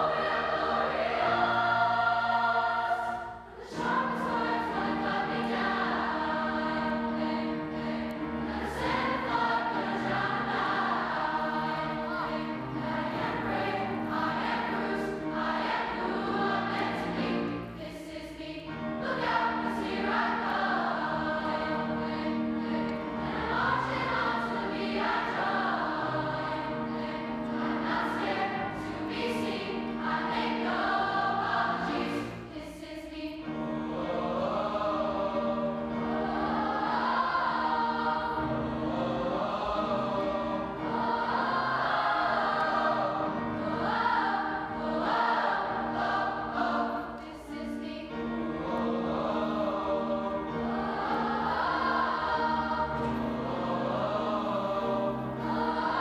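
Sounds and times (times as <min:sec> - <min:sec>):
choir breaths: 0:00.0 - 0:56.0
choir singing: 0:00.0 - 0:56.0.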